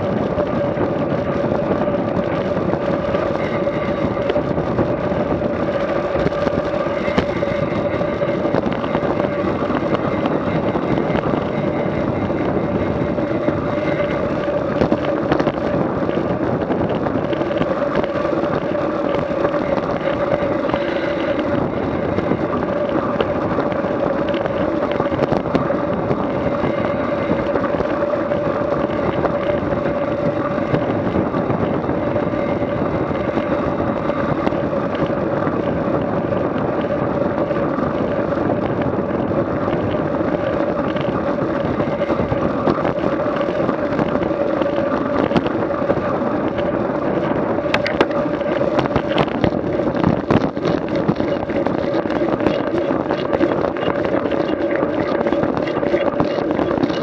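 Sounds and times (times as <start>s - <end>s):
continuous rushing noise: 0.0s - 57.0s
vehicle engine running steadily: 0.0s - 57.0s.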